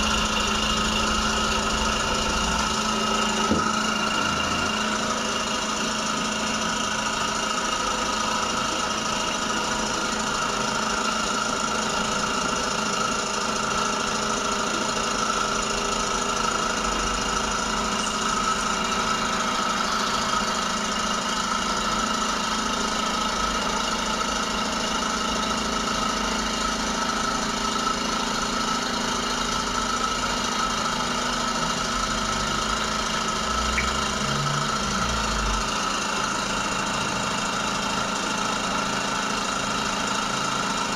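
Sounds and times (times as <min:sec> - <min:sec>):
suction machine motor hum: 0:00.0 - 0:40.9.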